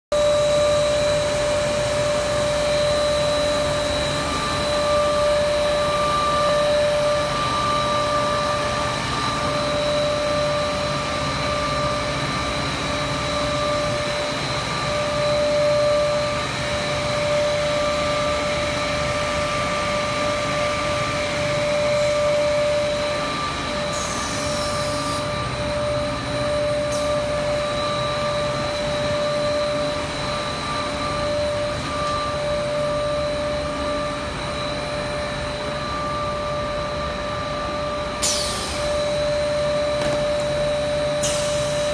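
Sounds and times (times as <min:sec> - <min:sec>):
high-pitched whine: 0:00.1 - 0:41.9
machine hum: 0:00.1 - 0:41.9.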